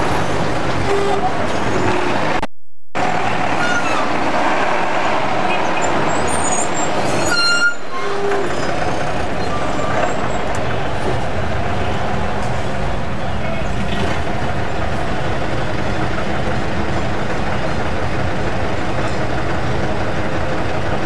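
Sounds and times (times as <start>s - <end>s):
dense traffic: 0.0s - 21.0s.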